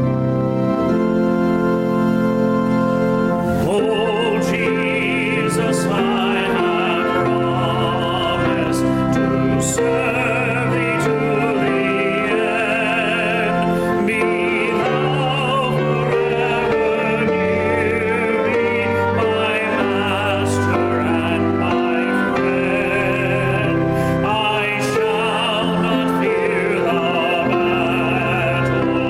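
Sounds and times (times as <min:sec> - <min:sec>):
instrumental accompaniment: 0:00.0 - 0:29.0
congregation singing a hymn: 0:02.5 - 0:29.0.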